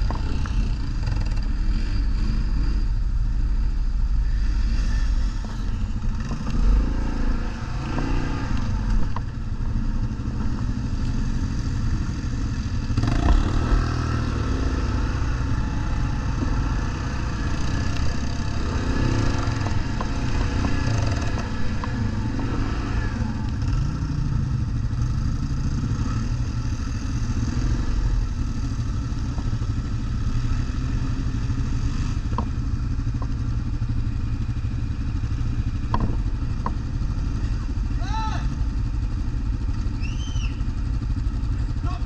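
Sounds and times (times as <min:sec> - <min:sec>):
atv engine revving: 0:00.0 - 0:42.0.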